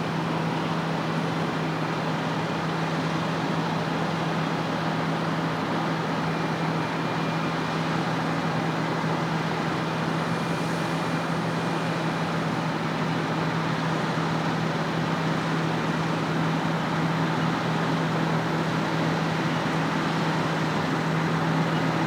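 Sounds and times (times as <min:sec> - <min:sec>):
farm machinery engine hum: 0:00.0 - 0:22.0.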